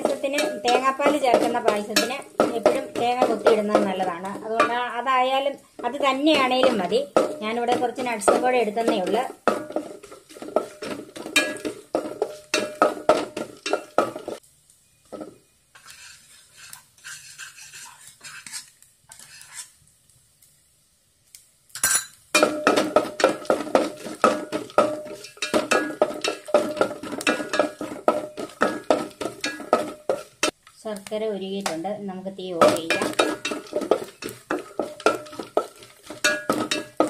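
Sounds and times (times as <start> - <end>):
spatula scraping metal pan: 0.0 - 5.0, 5.8 - 14.4, 15.2 - 19.8, 21.8 - 30.6, 32.6 - 37.0
nuts frying in fat: 0.0 - 37.0.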